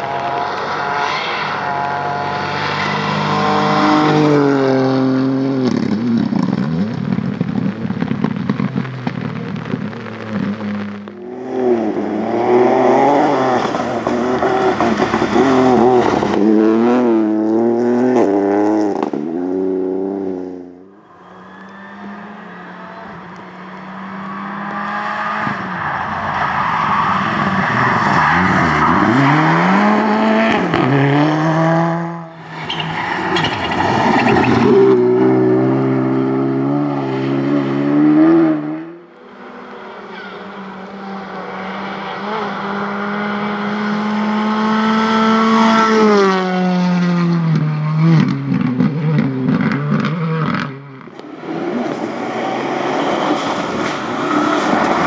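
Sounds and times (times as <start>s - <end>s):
rally car engines at full throttle: 0.0s - 55.0s.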